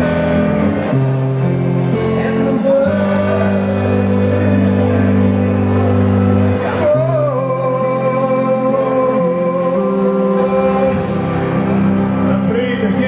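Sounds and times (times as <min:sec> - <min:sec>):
band accompaniment with bass line: 0:00.0 - 0:13.0.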